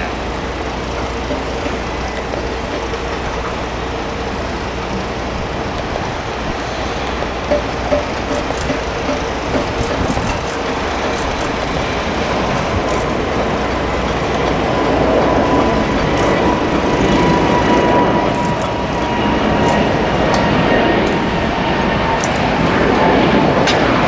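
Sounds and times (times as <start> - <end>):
jet engine rush: 0.0 - 24.0.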